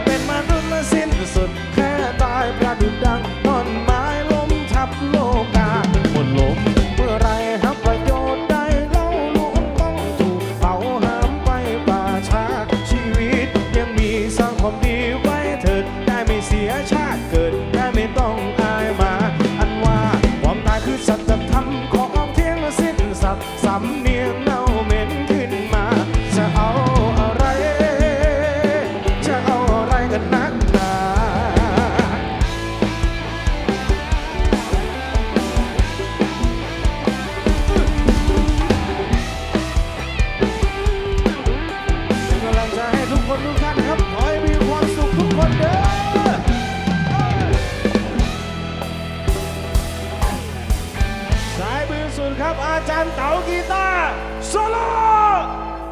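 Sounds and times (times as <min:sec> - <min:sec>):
drums keeping a steady beat: 0:00.0 - 0:55.4
live rock band playing: 0:00.0 - 0:55.9
wavering lead melody: 0:00.0 - 0:55.9.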